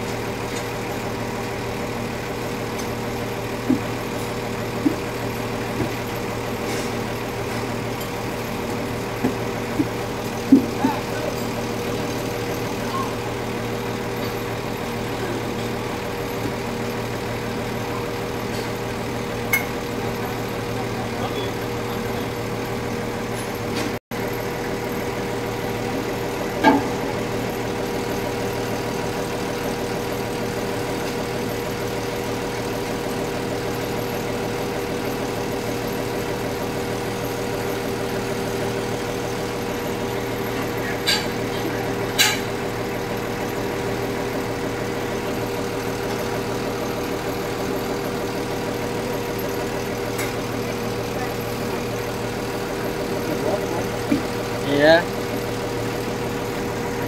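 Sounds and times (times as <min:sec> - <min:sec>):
forklift engine idling: 0:00.0 - 0:57.0.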